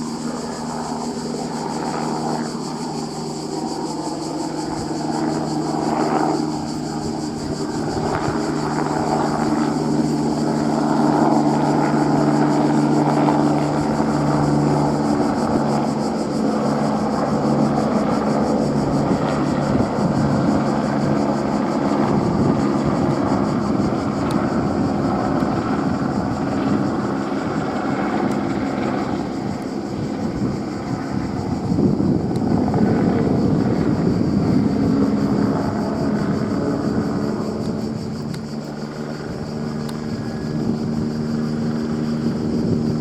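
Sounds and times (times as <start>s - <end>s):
helicopter flying: 0.0s - 43.0s.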